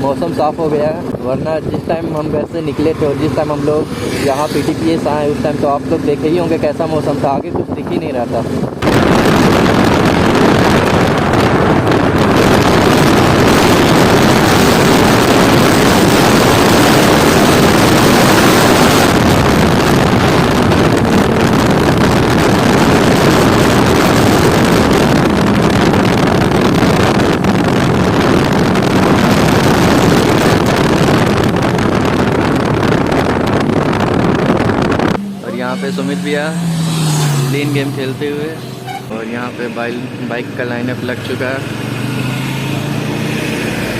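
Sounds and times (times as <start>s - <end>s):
motorcycle engine drone: 0.0s - 43.9s
wind noise on microphone: 0.0s - 43.9s.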